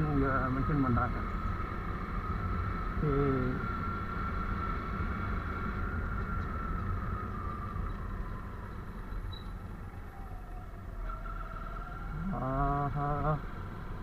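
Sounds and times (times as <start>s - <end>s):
road noise: 0.0s - 14.0s
steady high whine: 0.0s - 14.0s.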